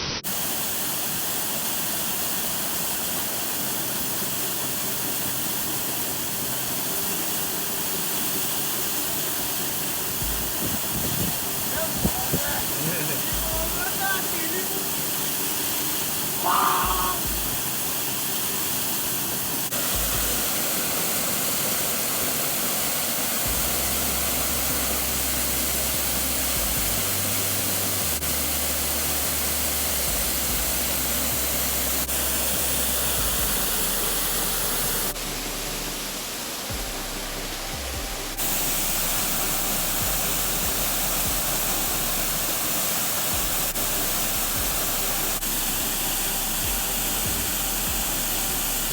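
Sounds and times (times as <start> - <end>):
waterfall roaring: 0.0 - 48.9
background music with low notes: 1.8 - 48.9.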